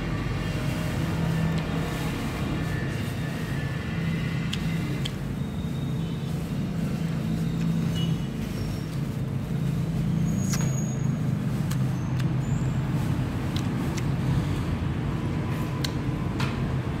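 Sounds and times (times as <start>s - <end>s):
road traffic engine rumble: 0.0s - 17.0s.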